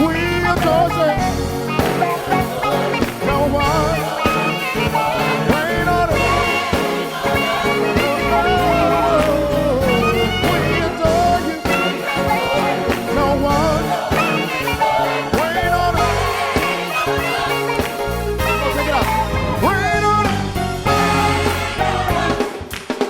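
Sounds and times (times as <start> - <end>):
gospel band playing: 0.0 - 23.0.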